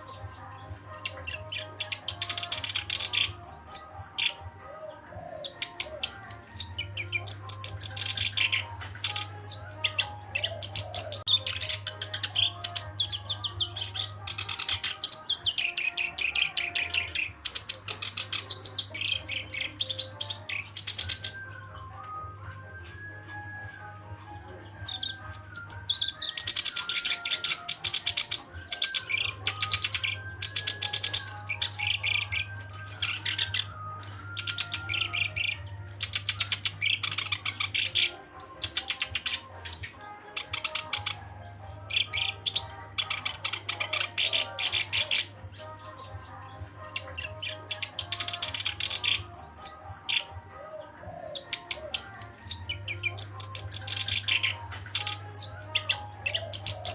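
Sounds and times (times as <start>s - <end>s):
reed warbler singing: 0.0s - 22.1s, 24.6s - 56.9s.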